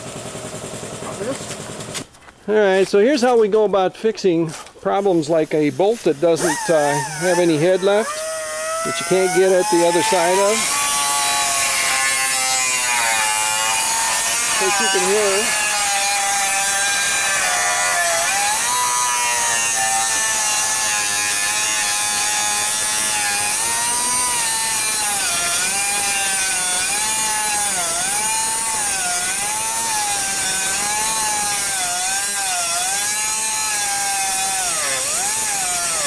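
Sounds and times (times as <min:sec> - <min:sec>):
grinding hiss: 0:00.0 - 0:36.0.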